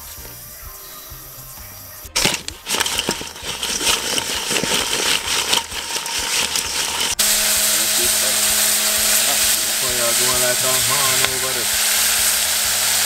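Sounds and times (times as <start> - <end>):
food sizzling: 0.0 - 13.0
crayfish rattling in steel bowl: 2.2 - 13.0.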